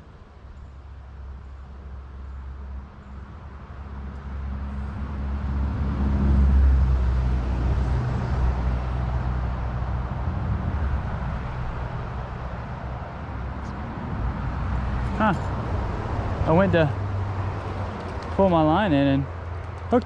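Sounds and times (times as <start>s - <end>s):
road vehicle passing: 3.9s - 20.0s.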